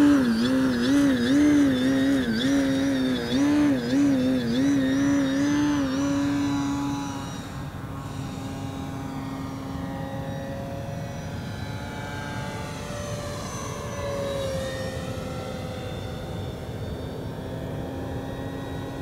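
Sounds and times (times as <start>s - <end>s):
model plane motor droning: 0.0s - 19.0s.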